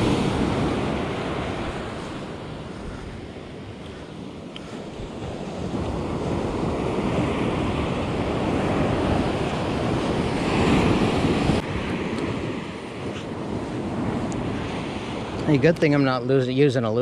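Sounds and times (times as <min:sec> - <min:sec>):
ocean surf breaking on beach: 0:00.0 - 0:17.0
wind buffeting microphone: 0:00.0 - 0:17.0.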